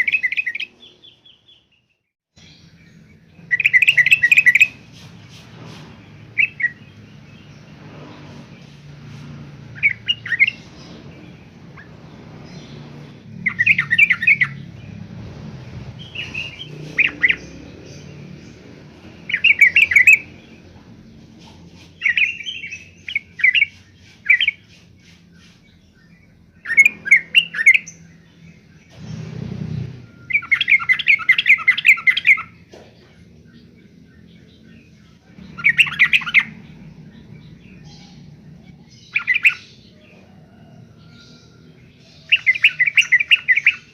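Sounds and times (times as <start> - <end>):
bulbul chattering song: 2.4 - 7.8, 8.6 - 15.0, 15.8 - 29.4, 30.2 - 40.0.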